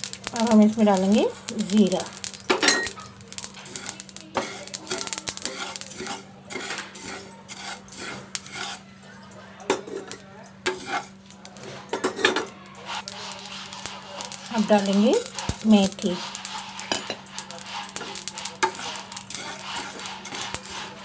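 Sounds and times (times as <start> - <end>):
utensil scraping a frying pan: 0.2 - 9.0, 9.7 - 21.0.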